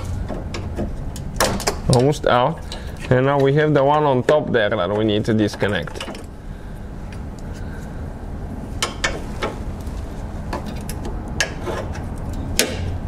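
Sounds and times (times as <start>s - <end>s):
low hum: 2.5s - 13.0s.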